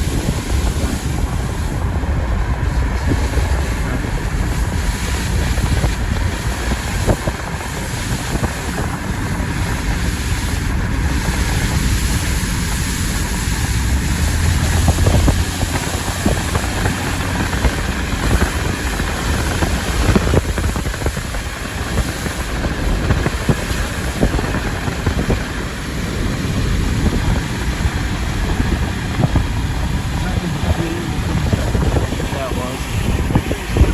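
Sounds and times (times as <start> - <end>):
low wind rumble: 0.0 - 33.9.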